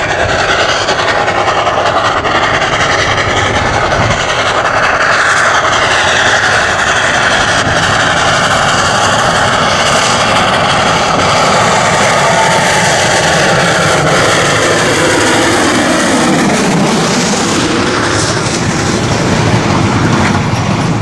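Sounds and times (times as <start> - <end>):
steam locomotive running noise: 0.0 - 21.0.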